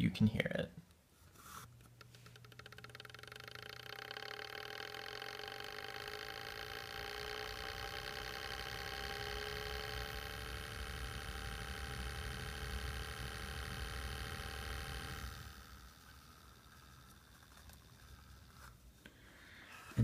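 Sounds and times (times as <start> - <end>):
desk fan motor buzz: 2.0 - 18.8.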